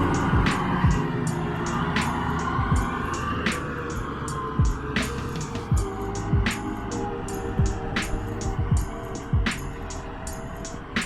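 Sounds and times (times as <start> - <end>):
hi-hat ticks: 0.0 - 10.8.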